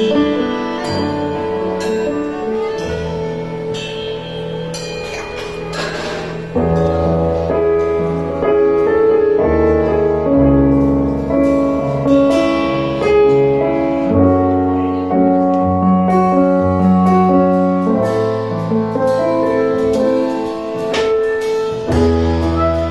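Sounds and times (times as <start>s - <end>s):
slow piano music: 0.0s - 22.9s.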